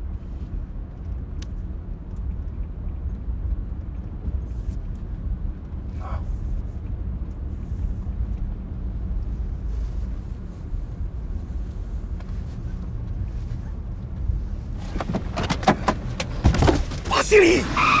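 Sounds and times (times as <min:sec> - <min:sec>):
car driving rumble inside cabin: 0:00.0 - 0:18.0.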